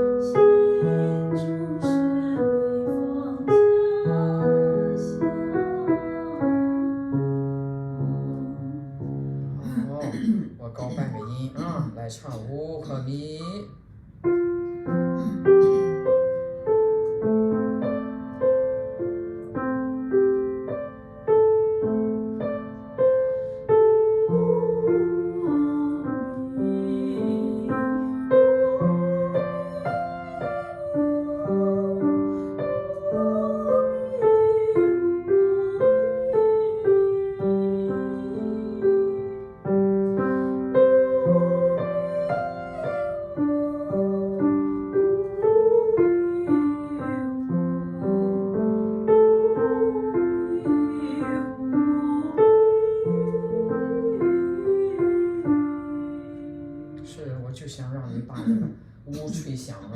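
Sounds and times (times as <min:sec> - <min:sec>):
slow piano melody: 0:00.0 - 0:59.9.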